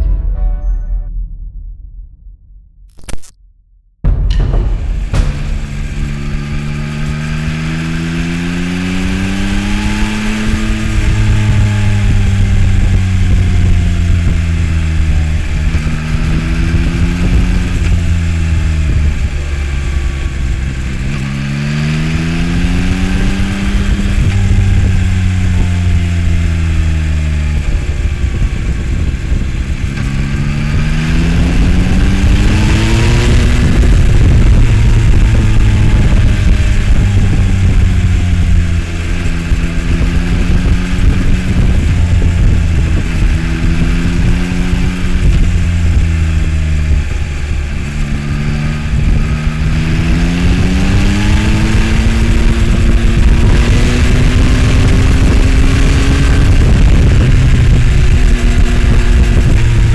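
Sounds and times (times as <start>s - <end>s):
motorcycle engine accelerating: 4.0s - 59.9s.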